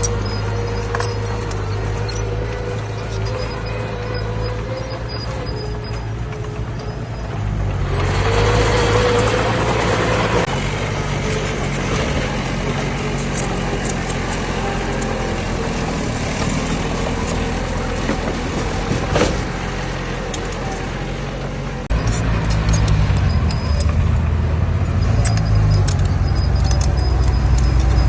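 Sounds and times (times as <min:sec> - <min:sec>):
diesel machinery engine running: 0:00.0 - 0:28.0.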